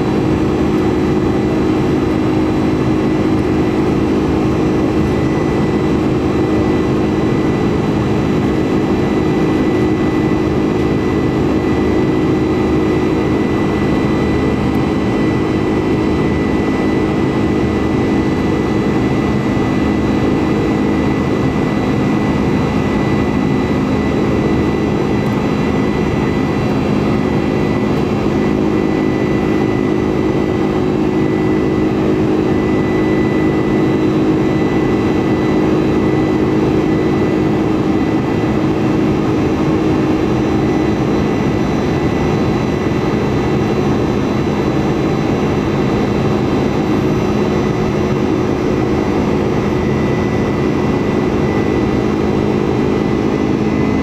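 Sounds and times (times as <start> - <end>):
jet engine and airflow rush: 0.0 - 54.0.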